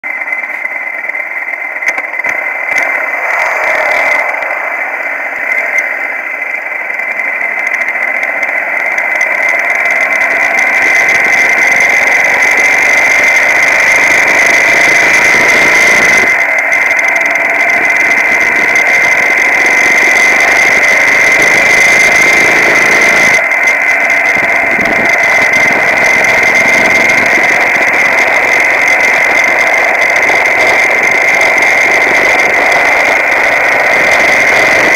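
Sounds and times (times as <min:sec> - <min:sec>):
high-pitched whine: 0:00.0 - 0:34.9
motorcycle engine running: 0:00.0 - 0:34.9.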